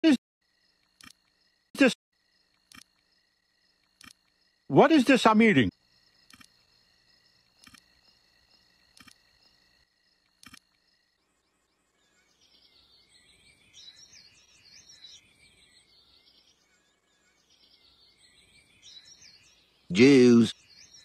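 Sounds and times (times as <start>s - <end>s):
cricket chirps: 0.0s - 21.0s
soft bird chirps: 0.5s - 21.0s.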